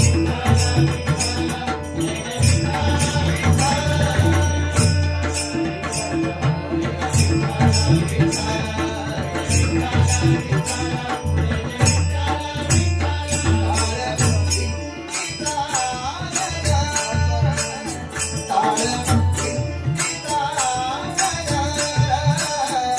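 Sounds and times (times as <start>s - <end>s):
devotional music: 0.0s - 22.9s.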